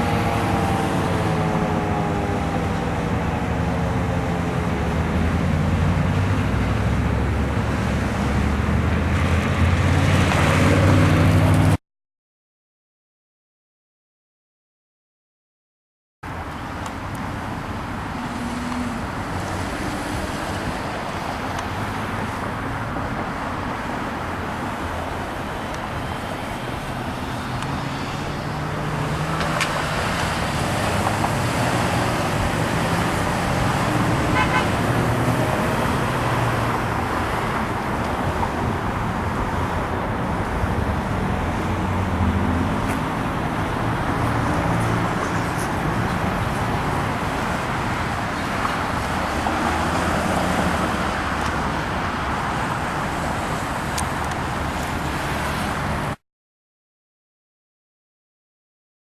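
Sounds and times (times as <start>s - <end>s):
cars passing: 0.0s - 11.8s, 16.3s - 56.2s.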